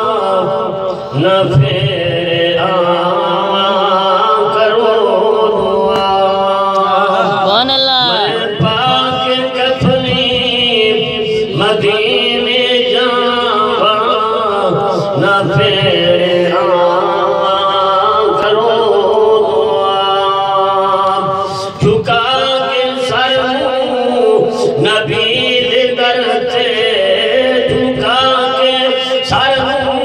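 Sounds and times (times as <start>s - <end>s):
man singing through a microphone: 0.0s - 30.0s.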